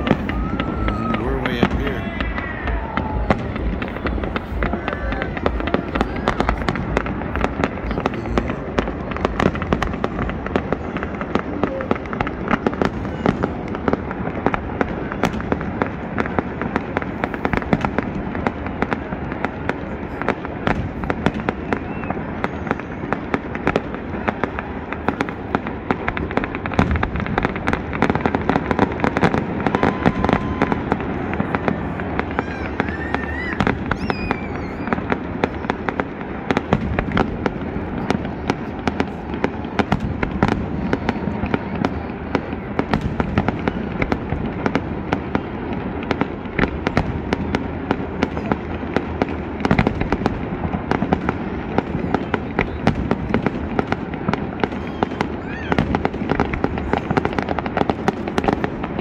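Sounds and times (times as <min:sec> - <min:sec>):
fireworks popping and banging: 0:00.0 - 0:59.0.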